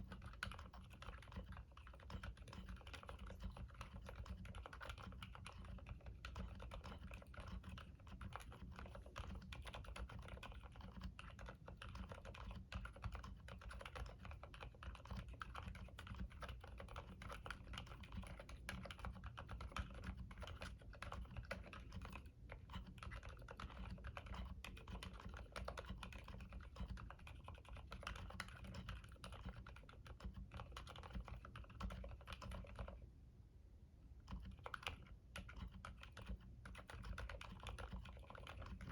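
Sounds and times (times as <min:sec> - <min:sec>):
damped keyboard keystrokes: 0:00.0 - 0:33.0, 0:34.2 - 0:38.9.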